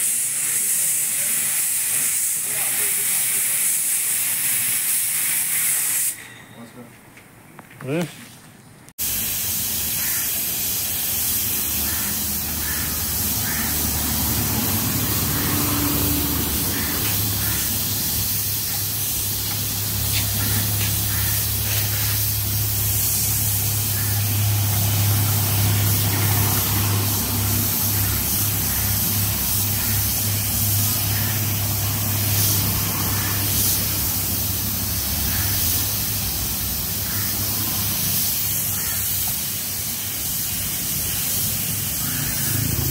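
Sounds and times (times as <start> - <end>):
spray gun air hissing: 0.0 - 6.2, 9.0 - 42.9.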